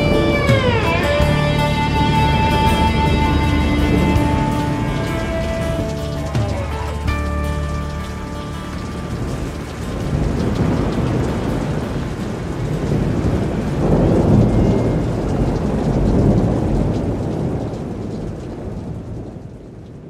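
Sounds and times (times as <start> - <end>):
rolling thunder: 0.0 - 20.0
steady rain: 0.0 - 20.0.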